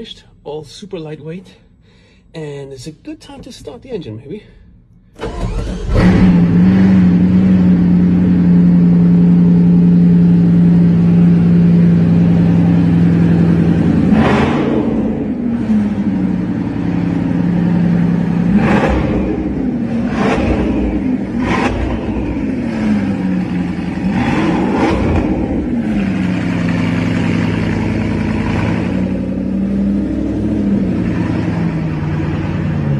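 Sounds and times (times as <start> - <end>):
car engine idling and revving: 5.2 - 32.9.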